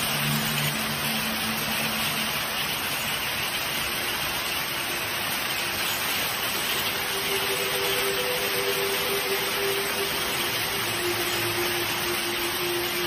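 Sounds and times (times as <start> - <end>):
hail and rain pelting street: 0.0 - 13.0.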